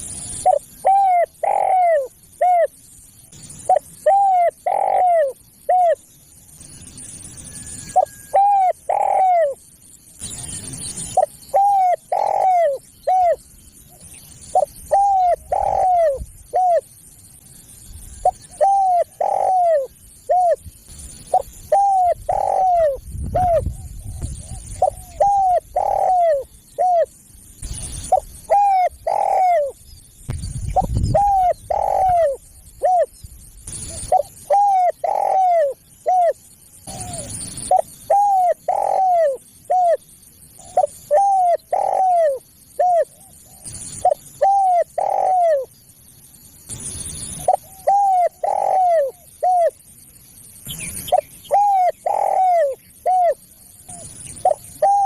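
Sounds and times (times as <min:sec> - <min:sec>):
dove cooing: 0:00.0 - 0:02.8, 0:03.4 - 0:06.0, 0:07.5 - 0:09.6, 0:10.3 - 0:17.0, 0:18.2 - 0:29.8, 0:30.7 - 0:45.7, 0:47.4 - 0:49.8, 0:51.0 - 0:55.0.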